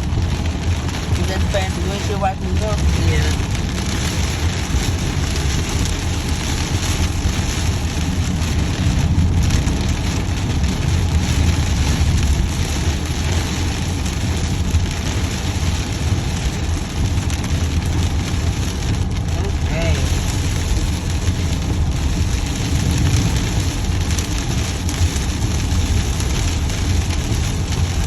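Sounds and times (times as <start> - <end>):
heavy rain on car: 0.0 - 28.0
road and engine rumble: 0.0 - 28.0.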